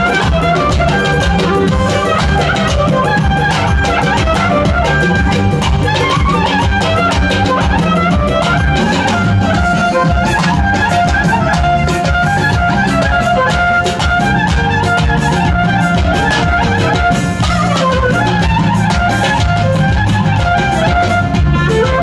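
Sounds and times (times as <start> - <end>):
clarinet melody: 0.0 - 22.0
drum beat: 0.0 - 22.0.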